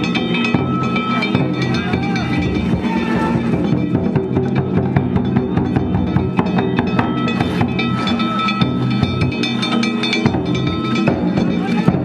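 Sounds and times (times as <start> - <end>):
hand gongs clanging: 0.0 - 12.0
taiko drum beating: 0.0 - 12.0.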